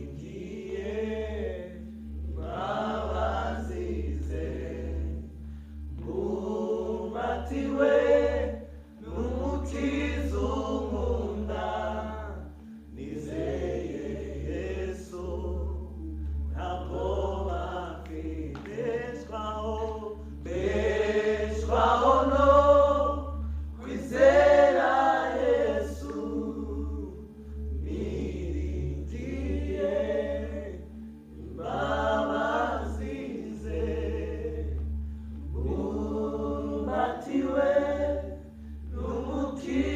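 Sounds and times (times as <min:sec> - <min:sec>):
steady low hum: 0:00.0 - 0:39.9
voices singing worship song: 0:00.0 - 0:39.9.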